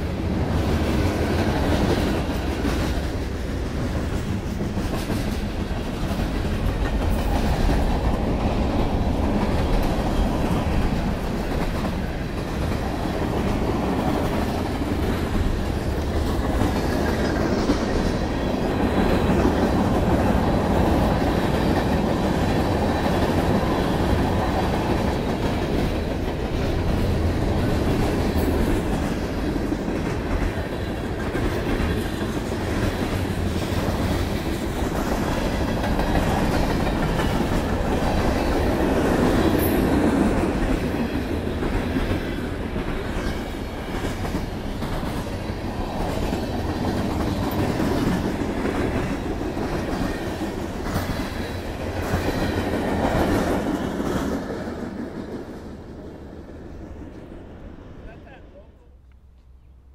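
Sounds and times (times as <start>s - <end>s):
wheels clacking on rails: 0.0s - 57.7s
freight train rumbling past: 0.0s - 59.9s.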